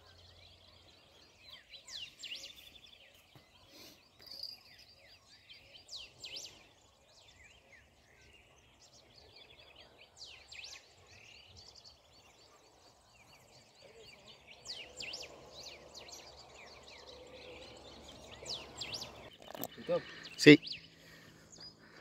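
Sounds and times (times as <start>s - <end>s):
birds chirping and trilling: 0.0s - 22.0s.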